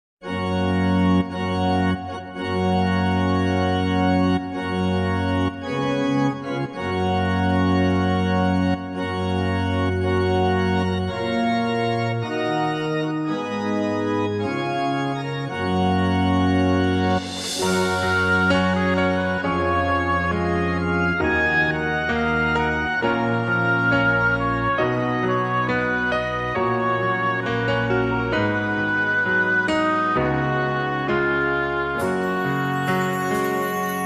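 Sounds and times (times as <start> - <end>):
organ playing slow chords: 0.2 - 34.0.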